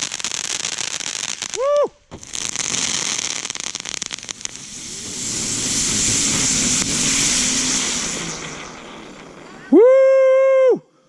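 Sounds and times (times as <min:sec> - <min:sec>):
firework hissing: 0:00.0 - 0:10.6
firework crackling: 0:00.0 - 0:10.7.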